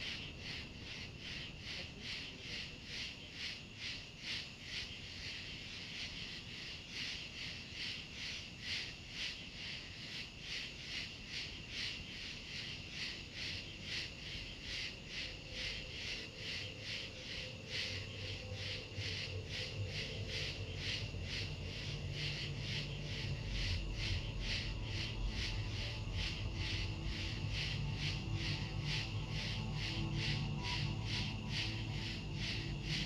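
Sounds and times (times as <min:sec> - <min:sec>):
faint low background noise: 0:00.0 - 0:33.0.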